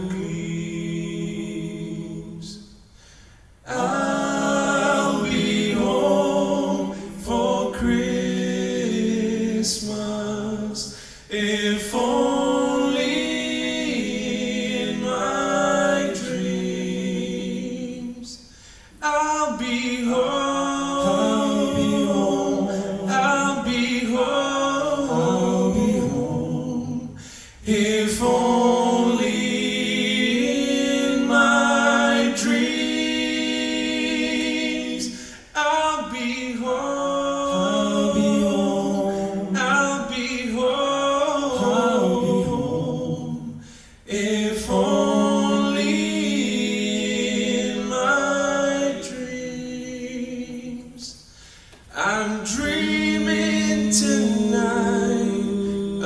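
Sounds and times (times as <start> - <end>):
men singing a cappella in harmony: 0.0 - 56.0.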